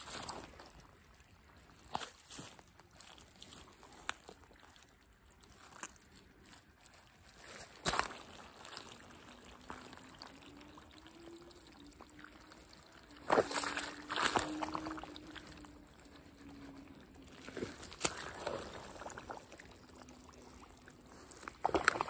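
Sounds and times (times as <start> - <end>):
boots squelching in wet mud: 0.0 - 22.0
faint low hum: 0.0 - 22.0.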